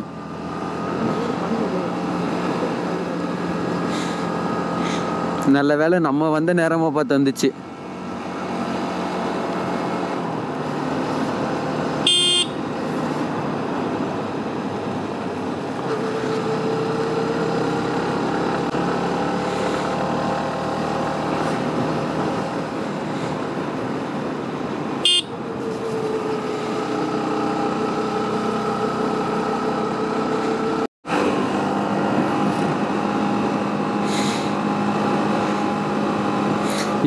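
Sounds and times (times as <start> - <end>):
motorcycle engine cruising: 0.0 - 6.4, 7.2 - 37.0
road and wind noise: 0.0 - 37.0.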